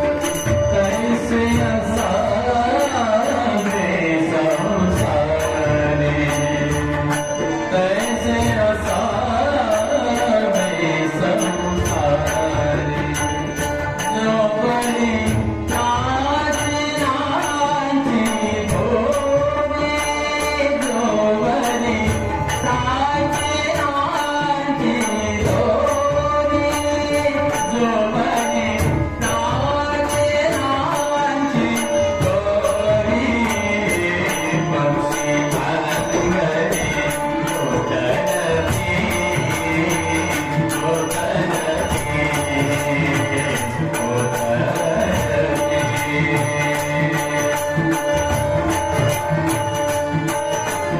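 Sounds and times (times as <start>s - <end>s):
voices singing devotional melody: 0.0s - 50.9s.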